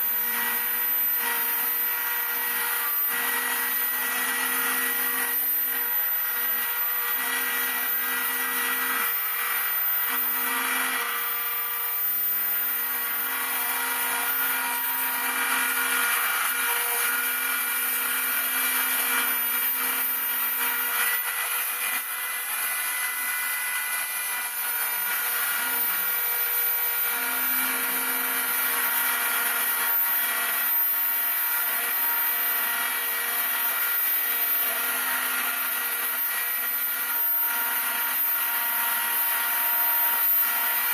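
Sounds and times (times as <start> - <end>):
router spindle high whine: 0.0 - 40.9.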